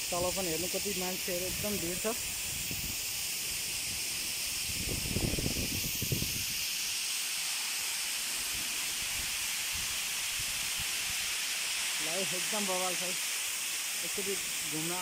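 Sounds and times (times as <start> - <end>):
waterfall rushing: 0.0 - 2.7, 3.4 - 15.0.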